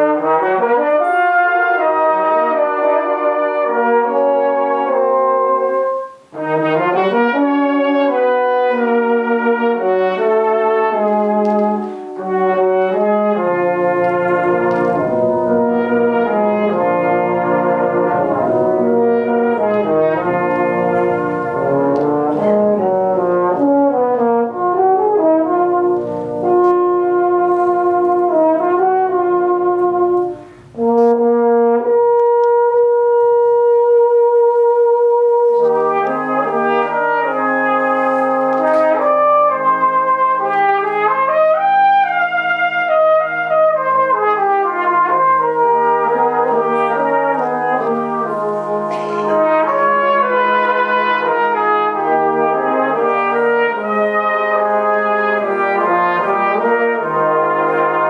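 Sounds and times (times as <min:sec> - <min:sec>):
brass band playing loud chords: 0:00.0 - 0:58.0.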